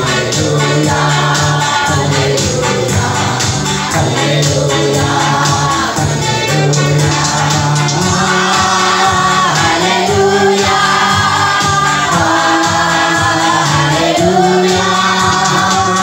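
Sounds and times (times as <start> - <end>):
instrumental backing: 0.0 - 16.0
man singing into microphone: 0.0 - 16.0
voices singing together: 0.0 - 16.0.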